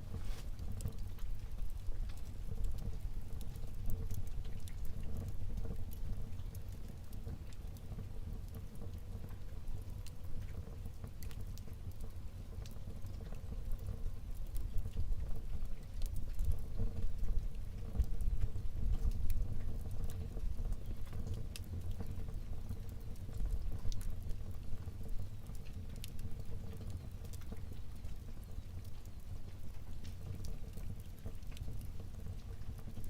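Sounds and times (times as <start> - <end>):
fire burning in a fireplace: 0.0 - 33.0.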